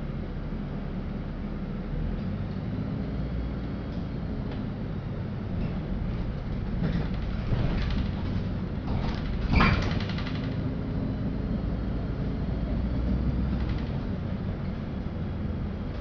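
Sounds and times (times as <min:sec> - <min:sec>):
bus engine rumble from inside: 0:00.0 - 0:16.0.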